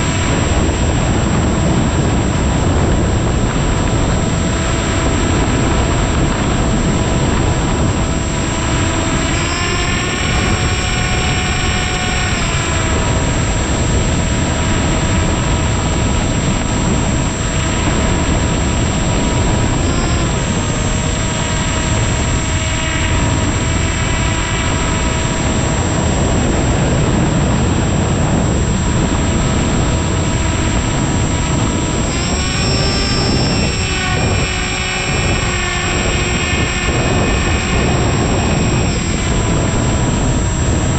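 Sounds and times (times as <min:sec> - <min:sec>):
rushing air noise: 0:00.0 - 0:23.8, 0:24.8 - 0:40.9
electric motor and propeller whine: 0:00.0 - 0:40.9.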